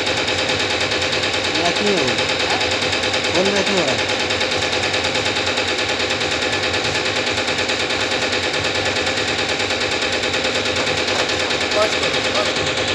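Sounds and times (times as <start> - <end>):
machine fast pulsing: 0.0 - 12.9.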